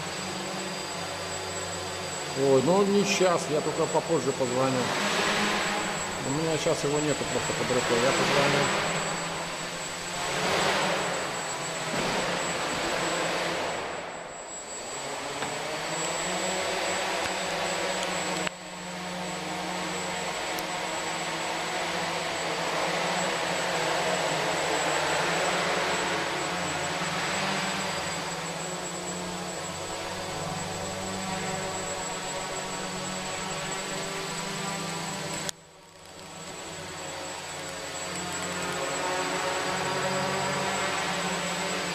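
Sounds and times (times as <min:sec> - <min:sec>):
model aircraft motor buzzing: 0:00.0 - 0:41.9.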